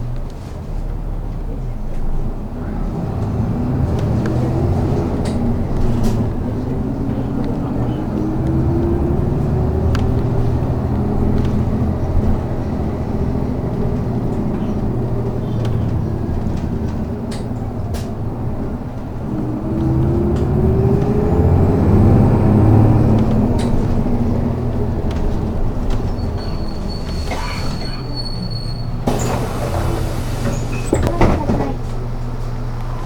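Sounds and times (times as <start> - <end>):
bus engine accelerating: 0.0 - 33.0.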